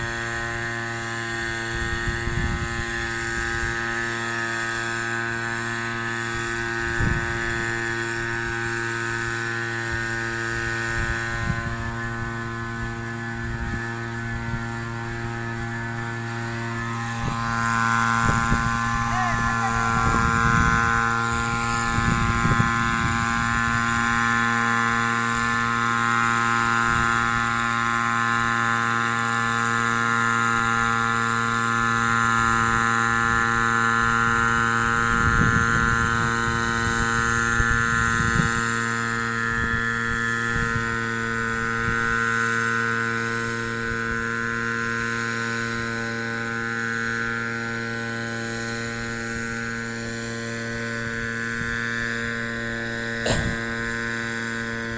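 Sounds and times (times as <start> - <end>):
two-stroke engine whining: 0.0 - 54.9.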